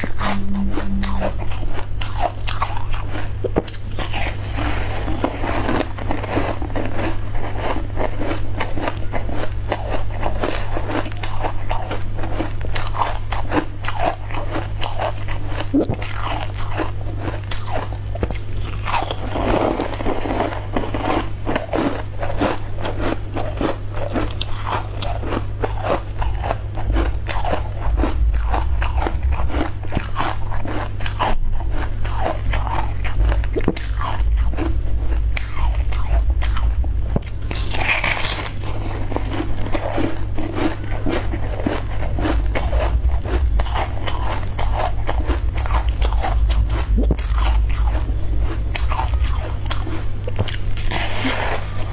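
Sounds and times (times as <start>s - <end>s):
chewing mouth sounds: 0.0s - 51.9s
low electrical hum: 0.0s - 51.9s.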